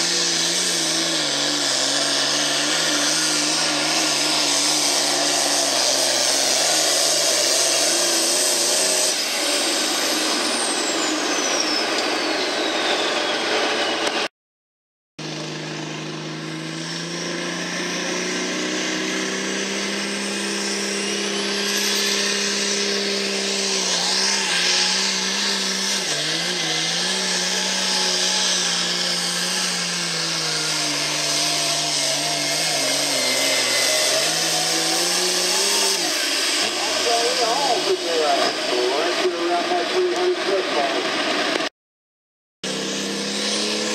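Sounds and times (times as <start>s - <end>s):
diesel tractor engines at full throttle: 0.0s - 14.3s, 15.2s - 41.7s, 42.6s - 43.9s.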